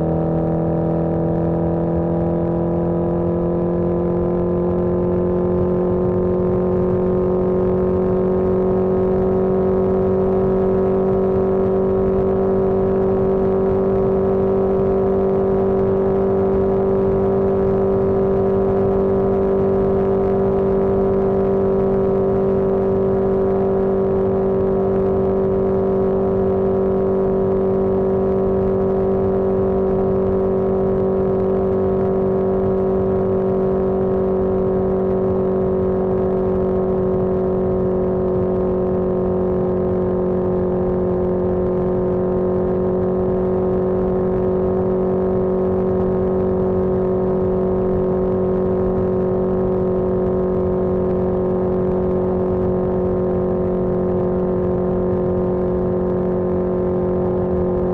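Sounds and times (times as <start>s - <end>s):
road and wind rumble: 0.0s - 57.9s.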